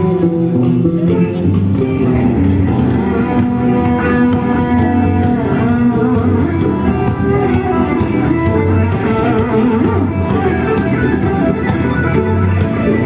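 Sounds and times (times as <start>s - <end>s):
instrumental band music with guitar: 0.0s - 13.0s.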